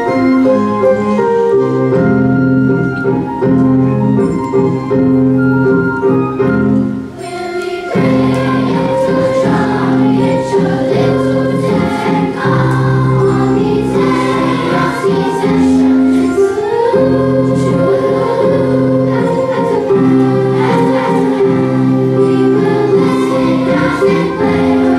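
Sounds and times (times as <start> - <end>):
children's choir singing: 0.0 - 24.9
instrumental accompaniment: 0.0 - 24.9.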